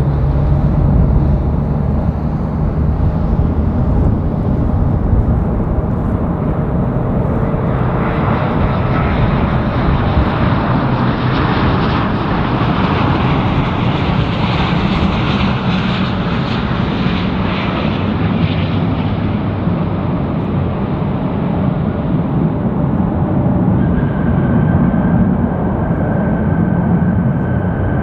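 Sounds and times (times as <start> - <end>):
airliner engines passing: 0.0 - 28.0.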